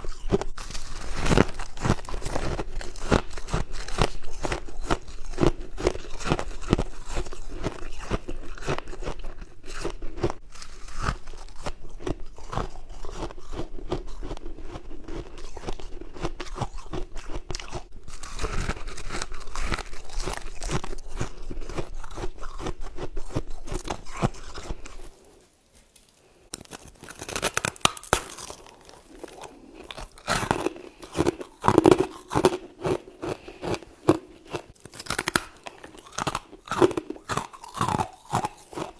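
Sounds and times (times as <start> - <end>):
chewing crunchy frost: 0.0 - 25.4, 26.5 - 38.9.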